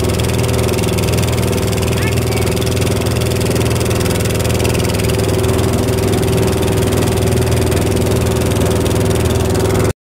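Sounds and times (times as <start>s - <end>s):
boat engine droning: 0.0s - 9.9s.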